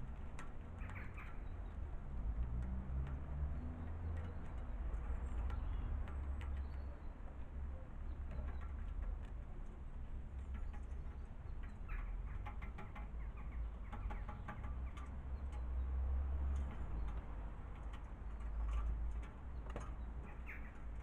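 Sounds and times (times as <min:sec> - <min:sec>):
small birds chirping: 0:00.7 - 0:02.2, 0:03.7 - 0:21.0.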